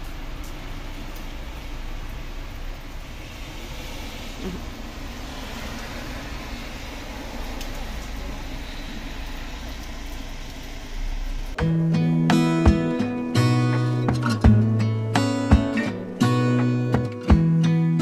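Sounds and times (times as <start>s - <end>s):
rain: 0.0s - 17.3s
traffic on wet roads: 0.0s - 17.5s.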